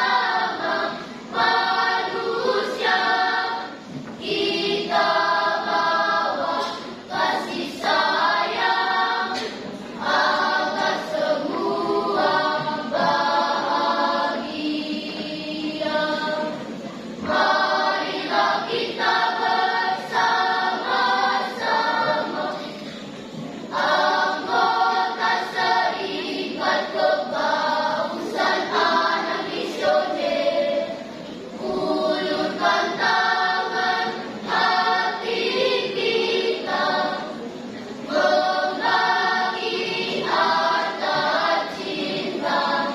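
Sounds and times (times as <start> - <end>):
children's choir singing: 0.0 - 42.9.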